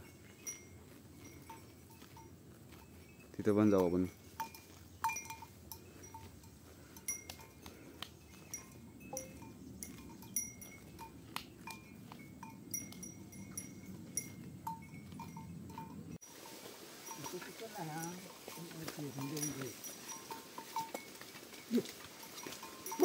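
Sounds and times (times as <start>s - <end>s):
livestock bells clinking: 0.0s - 23.0s.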